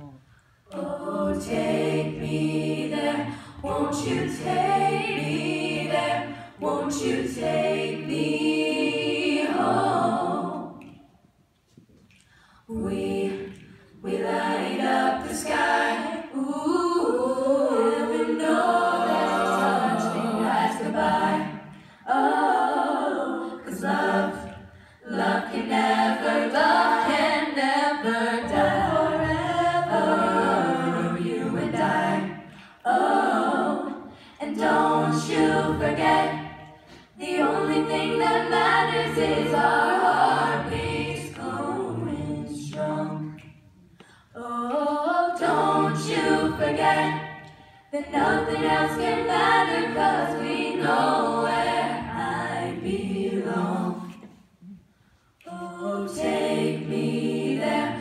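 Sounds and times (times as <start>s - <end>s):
choir singing in harmony: 0.0s - 11.4s, 12.6s - 58.0s.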